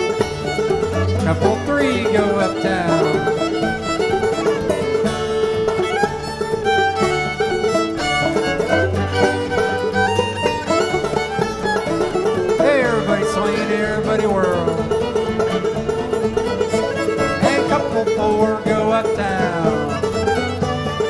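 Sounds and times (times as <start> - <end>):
fiddle melody: 0.0 - 21.0
plucked-string rhythm: 0.0 - 21.0.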